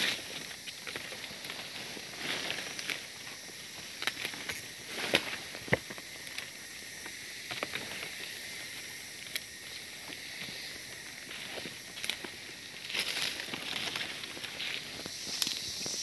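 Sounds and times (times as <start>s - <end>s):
brushing through undergrowth: 0.0s - 6.6s, 7.5s - 16.0s
footsteps crunching through leaves: 0.0s - 16.0s
forest background hiss: 0.0s - 16.0s.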